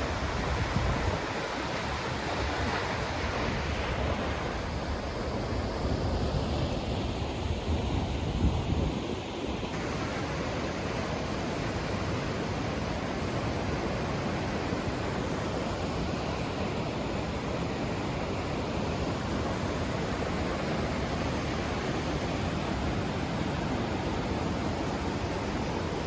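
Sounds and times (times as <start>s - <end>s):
rushing falling water: 0.0s - 8.0s, 9.6s - 26.0s.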